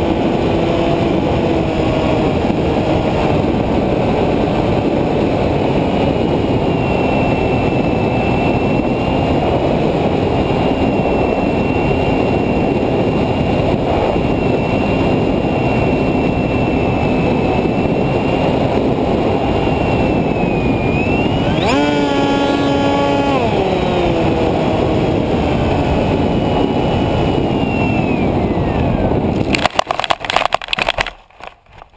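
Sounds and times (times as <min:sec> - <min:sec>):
model airplane motor whine: 0:00.0 - 0:30.5
wind rush: 0:00.0 - 0:31.9.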